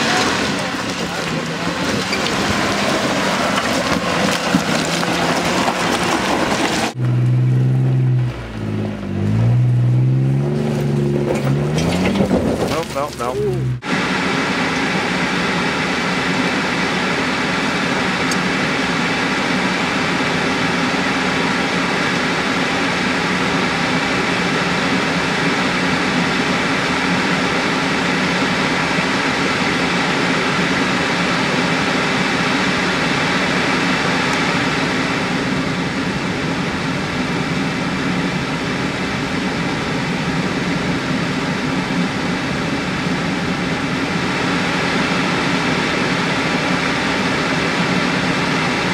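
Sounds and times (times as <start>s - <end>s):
engine and tyre noise off-road: 0.0s - 48.9s.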